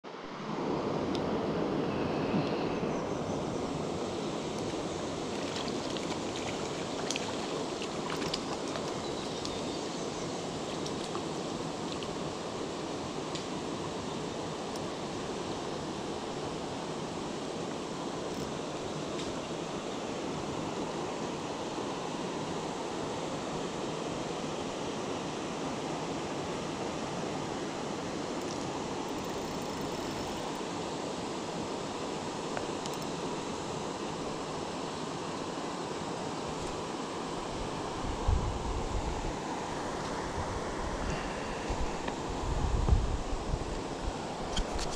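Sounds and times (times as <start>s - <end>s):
stream water rushing: 0.1s - 44.9s.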